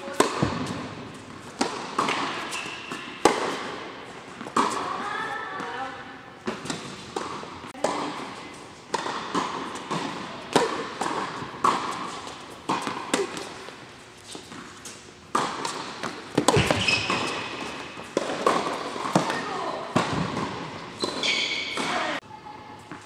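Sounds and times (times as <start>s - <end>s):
tennis racket striking ball: 0.0s - 5.7s, 6.4s - 22.2s
ball bouncing on hard court: 0.0s - 5.8s, 6.4s - 13.8s, 14.4s - 22.2s.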